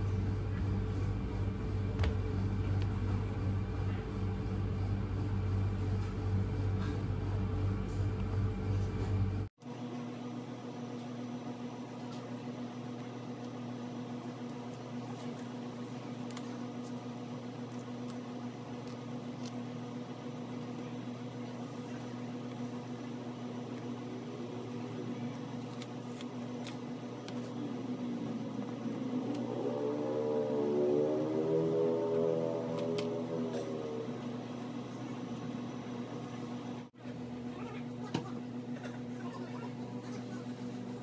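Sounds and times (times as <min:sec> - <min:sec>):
steady mechanical hum: 0:00.0 - 0:41.0.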